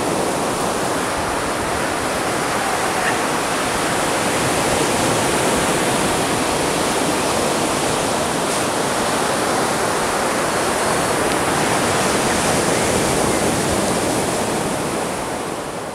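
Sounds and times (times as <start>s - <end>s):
surf washing up beach: 0.0s - 15.9s.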